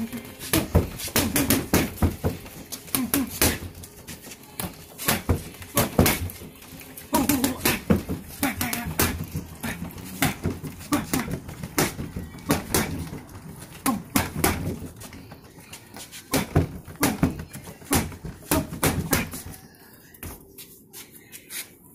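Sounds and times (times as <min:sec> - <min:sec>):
boxing gloves punching dummy: 0:00.3 - 0:04.0, 0:04.6 - 0:06.5, 0:07.1 - 0:19.6.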